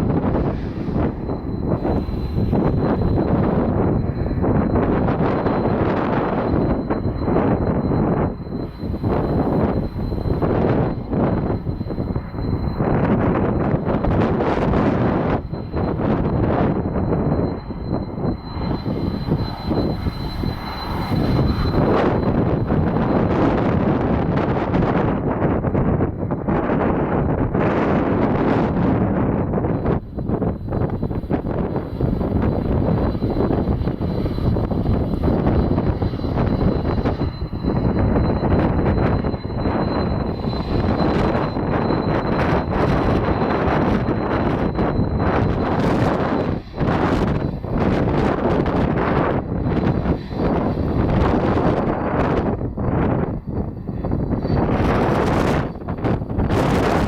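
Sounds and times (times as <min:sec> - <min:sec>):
jet engine high whine: 0:00.0 - 0:57.0
wind buffeting microphone: 0:00.0 - 0:57.0.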